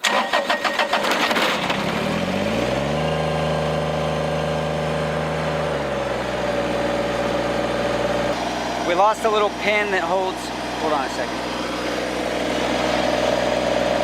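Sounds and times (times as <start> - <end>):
tractor diesel engine starting and revving: 0.0 - 14.0.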